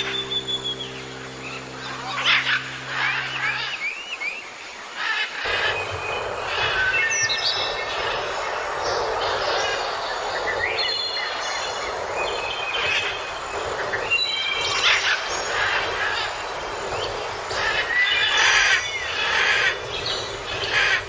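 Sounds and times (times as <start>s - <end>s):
birds chirping and whistling: 0.0s - 4.8s, 5.4s - 21.0s
steady rushing noise: 0.0s - 21.0s.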